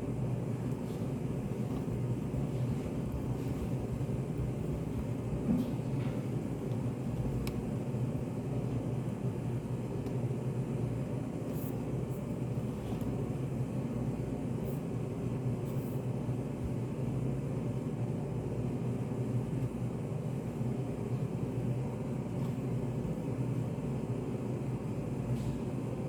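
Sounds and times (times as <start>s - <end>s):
low room rumble: 0.0s - 26.0s.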